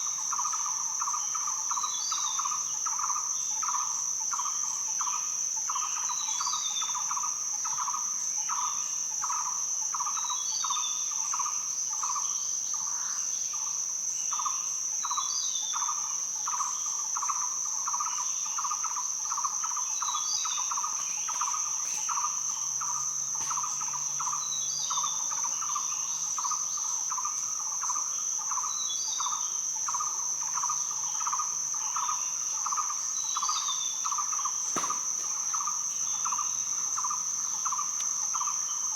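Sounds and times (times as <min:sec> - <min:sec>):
cicada-like insect drone: 0:00.0 - 0:38.9
pulsing insect chirp: 0:00.0 - 0:38.9.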